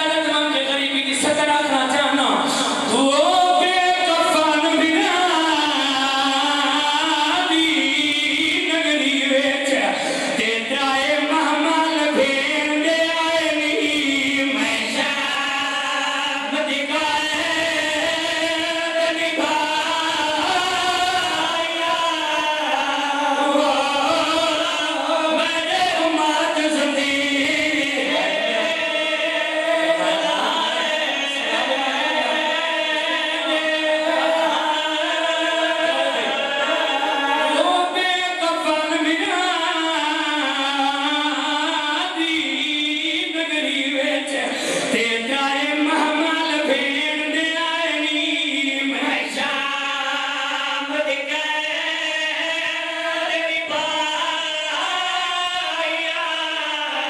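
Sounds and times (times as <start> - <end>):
lead voice at a microphone: 0.0 - 57.0
men chanting in chorus: 2.5 - 57.0.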